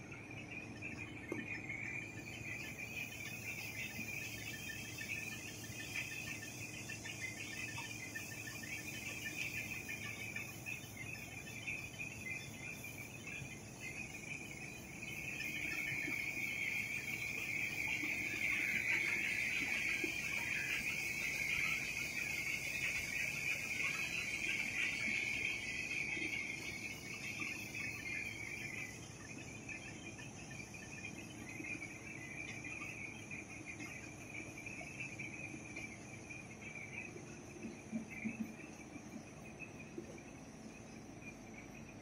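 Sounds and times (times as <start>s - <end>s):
printing press hiss and whir: 0.0s - 42.0s.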